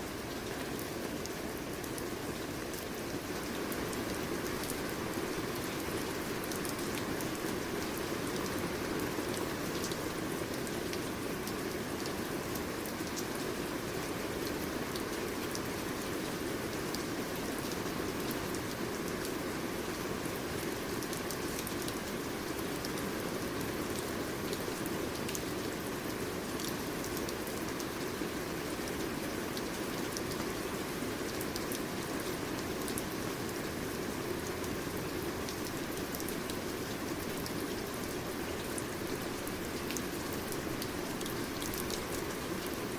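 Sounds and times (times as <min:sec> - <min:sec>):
steady rain hissing: 0:00.0 - 0:42.9.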